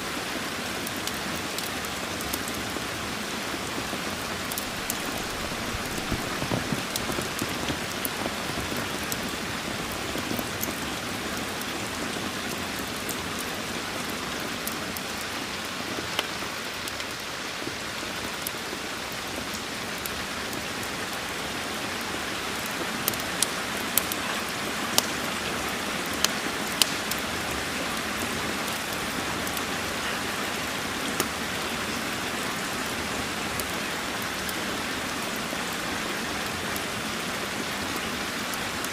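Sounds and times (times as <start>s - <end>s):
rain hiss: 0.0s - 38.9s
wood fire crackling: 0.1s - 38.9s.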